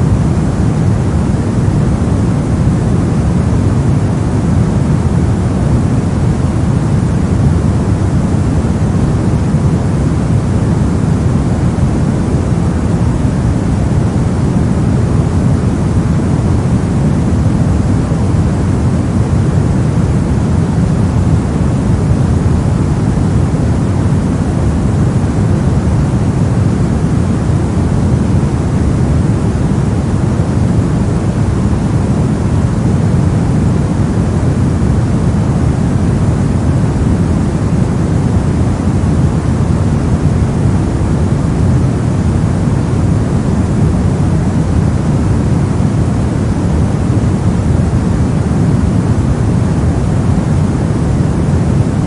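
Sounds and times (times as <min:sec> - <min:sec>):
deep brown noise hiss: 0:00.0 - 0:52.0.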